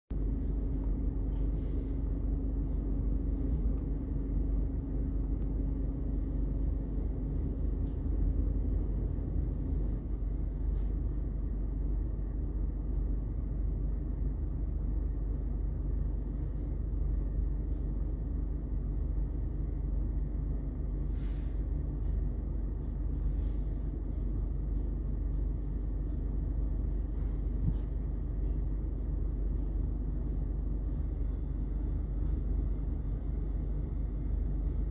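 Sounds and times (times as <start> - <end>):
steady hum: 0.1 - 34.9.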